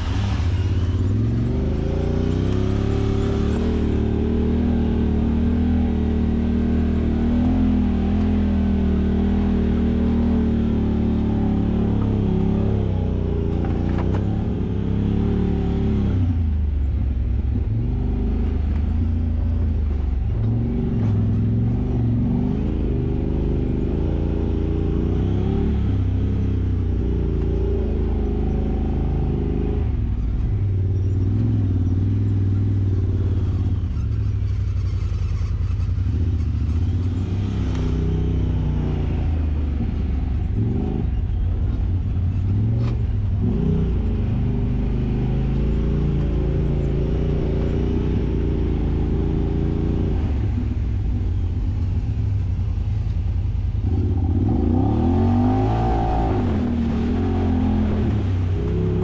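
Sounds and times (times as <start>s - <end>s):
engine revving: 0.0s - 16.8s, 17.5s - 34.1s, 35.1s - 51.4s, 53.8s - 59.0s.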